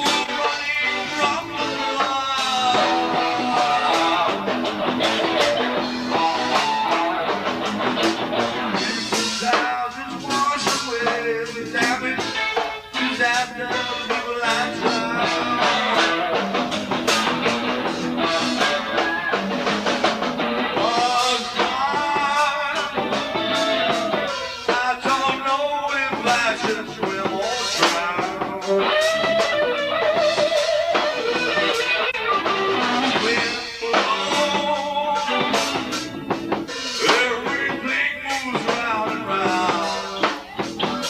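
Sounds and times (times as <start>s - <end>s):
guitar: 0.0s - 41.0s
rock band playing live: 0.0s - 41.0s.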